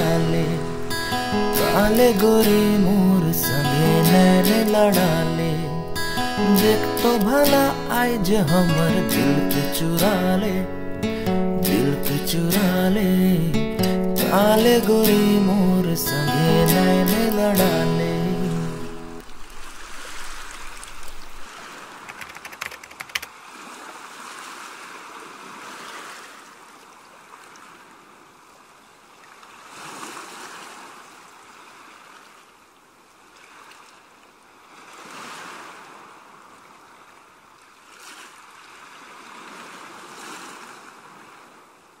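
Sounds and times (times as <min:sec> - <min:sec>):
sea waves washing in: 0:00.0 - 0:28.2, 0:34.6 - 0:42.0.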